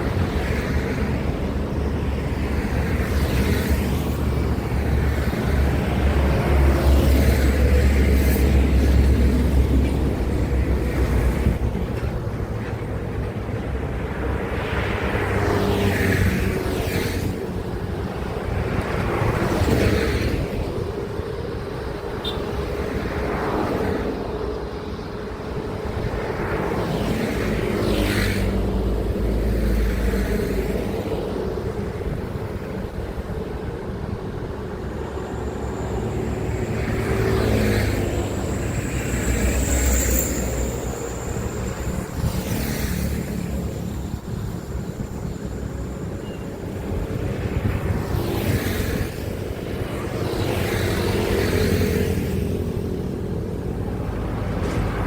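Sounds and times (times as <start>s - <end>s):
truck engines running: 0.0s - 55.0s
vehicles passing with tyre noise: 0.0s - 55.0s.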